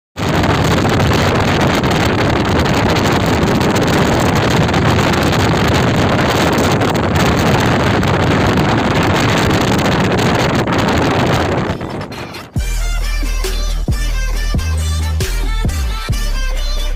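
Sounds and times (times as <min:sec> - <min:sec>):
speedboat motor: 0:00.2 - 0:16.4
wind buffeting microphone: 0:00.2 - 0:16.6.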